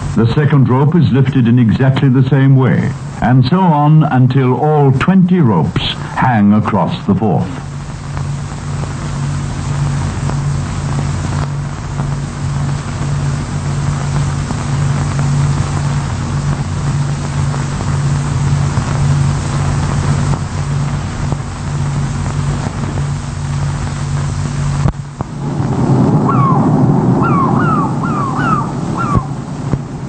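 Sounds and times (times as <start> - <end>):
low mechanical drone: 0.0 - 30.0.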